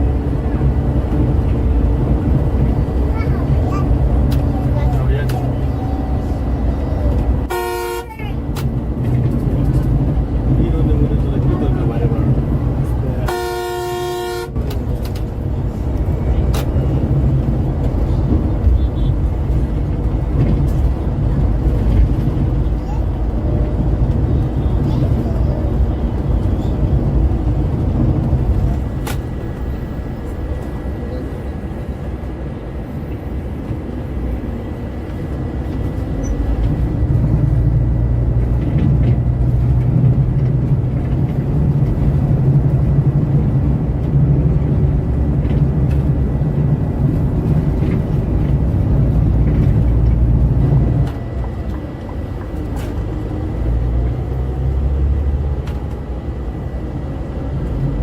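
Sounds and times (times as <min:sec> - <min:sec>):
coach engine and road rumble: 0:00.0 - 0:58.0.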